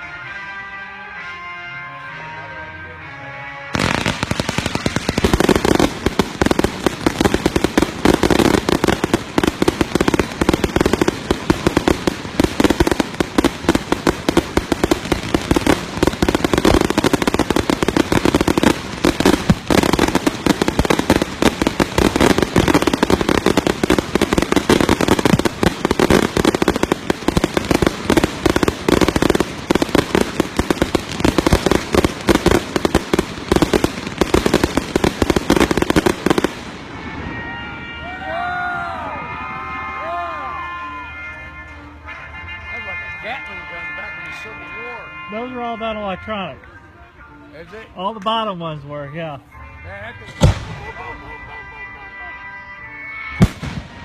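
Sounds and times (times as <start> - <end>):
fireworks bangs and crackles: 3.7 - 46.5, 50.0 - 52.2, 52.9 - 54.0.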